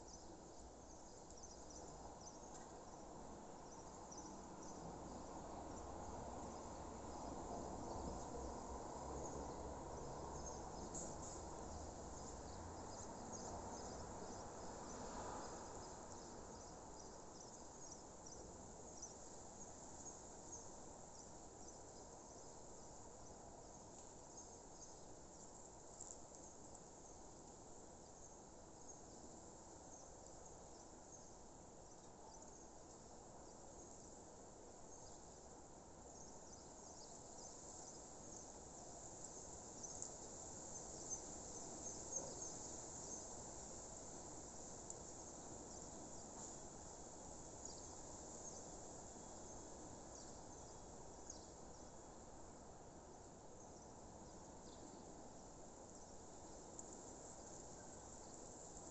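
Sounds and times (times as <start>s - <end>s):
soft steady hiss: 0.0s - 58.9s.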